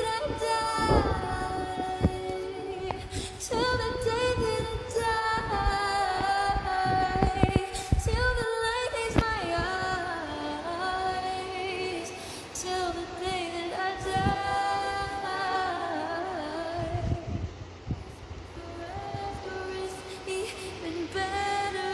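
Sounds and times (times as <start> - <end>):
woman singing wordless notes: 0.0 - 21.9.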